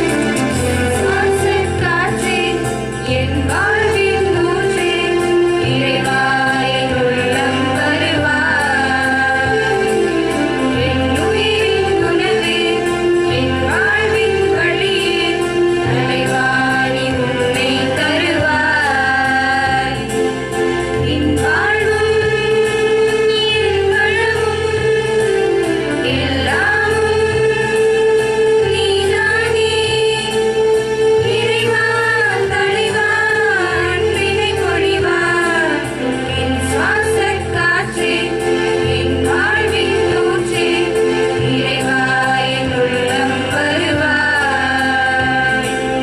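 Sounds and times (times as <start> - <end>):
women's choir singing: 0.0 - 20.3, 21.0 - 46.0.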